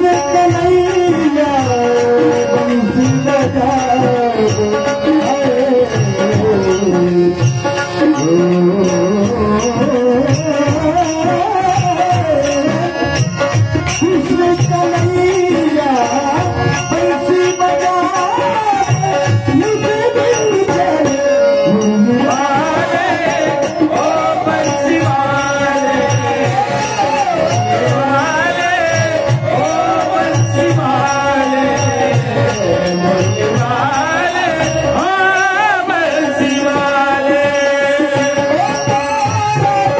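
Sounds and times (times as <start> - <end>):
ornamented melodic voice: 0.0 - 39.9.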